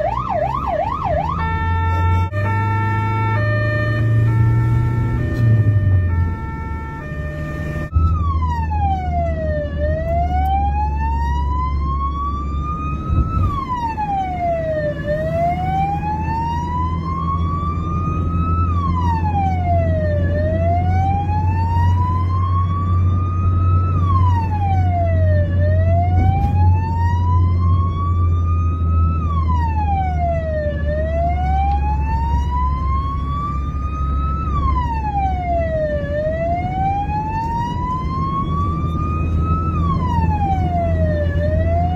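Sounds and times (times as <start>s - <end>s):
ambulance siren wailing: 0.0s - 41.9s.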